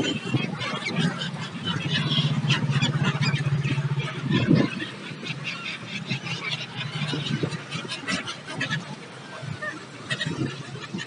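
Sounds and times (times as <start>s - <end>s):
gulls calling: 0.0s - 11.0s.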